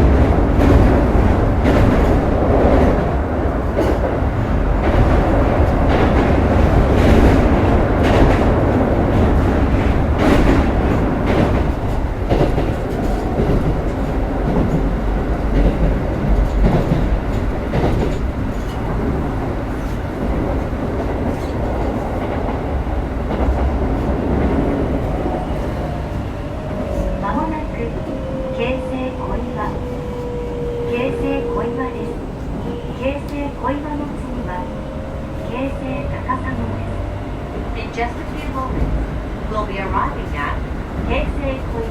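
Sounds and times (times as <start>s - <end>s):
train rail rumble: 0.0s - 41.9s.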